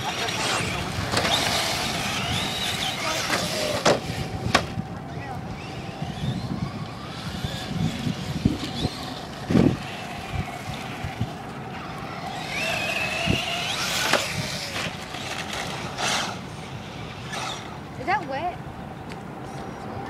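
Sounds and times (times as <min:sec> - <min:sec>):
model truck motors whining: 0:00.0 - 0:18.2.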